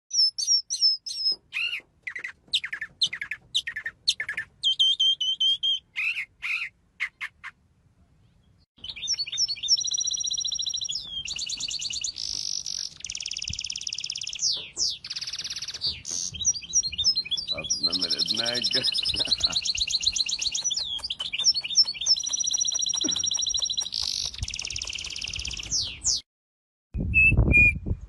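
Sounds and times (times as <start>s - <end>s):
bird singing chirps and trills: 0.1s - 7.5s, 8.2s - 26.2s.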